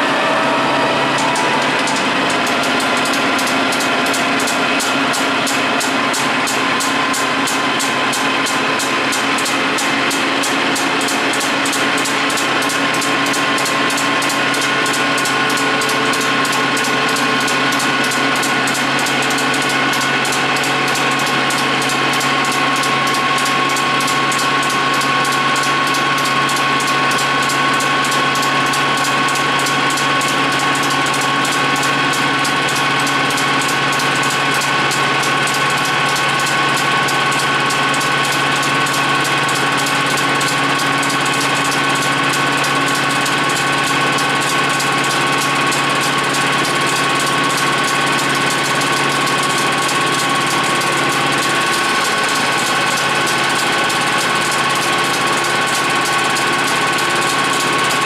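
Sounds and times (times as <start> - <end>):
lathe whining: 0.0 - 58.0
machine hum: 0.0 - 58.0.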